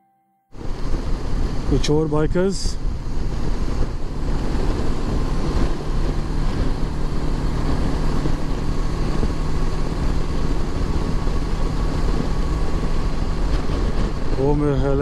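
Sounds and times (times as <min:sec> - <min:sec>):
wind rush on microphone: 0:00.5 - 0:15.0
motorcycle engine cruising: 0:00.6 - 0:15.0.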